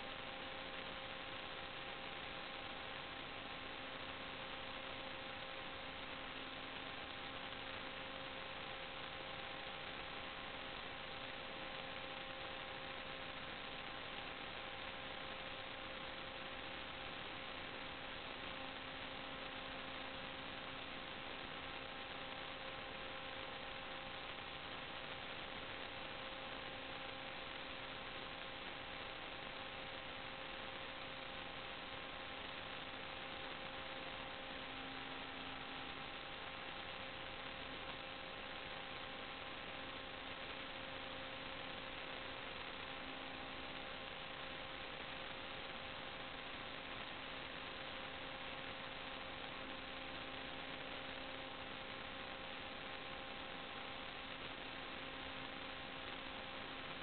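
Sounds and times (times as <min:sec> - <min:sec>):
electrical hiss and hum: 0:00.0 - 0:57.0.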